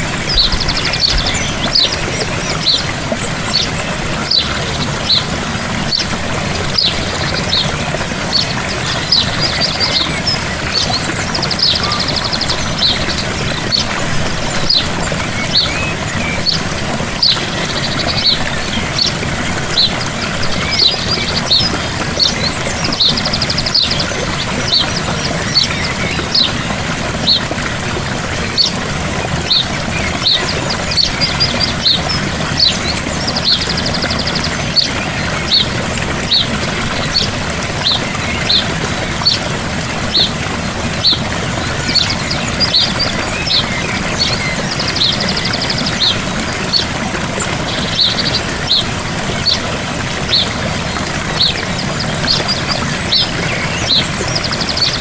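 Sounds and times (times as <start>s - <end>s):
birds chirping: 0.0s - 55.0s
rapid bird trill: 0.0s - 55.0s
waterfall splashing: 0.0s - 55.0s.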